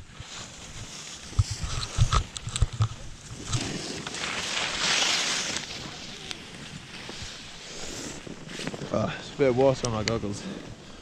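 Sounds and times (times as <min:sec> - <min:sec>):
skis sliding over snow: 0:00.1 - 0:02.4, 0:03.1 - 0:11.0.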